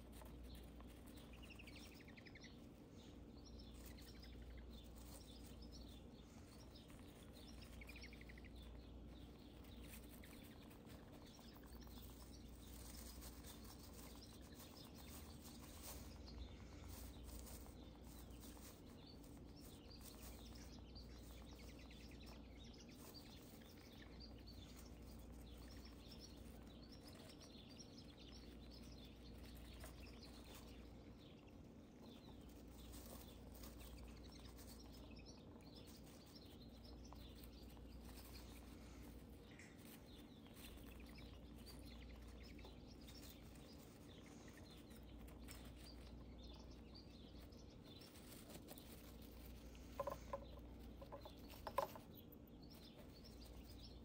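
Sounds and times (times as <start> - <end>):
low steady hum: 0.0 - 54.0
rustling of wood-shaving bedding: 0.0 - 54.0.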